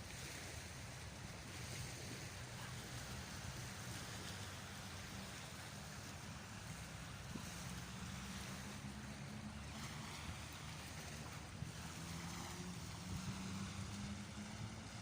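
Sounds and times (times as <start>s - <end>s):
surf: 0.0s - 15.0s.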